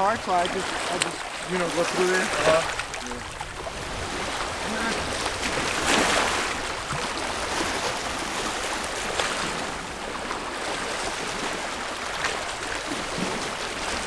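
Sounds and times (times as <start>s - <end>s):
waves against rocky shore: 0.0s - 14.0s.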